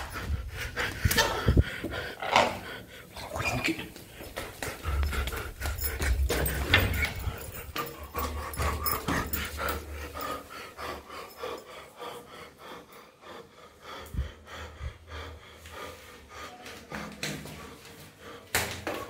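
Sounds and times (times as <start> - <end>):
man panting hard: 0.0 - 3.2, 3.9 - 19.0.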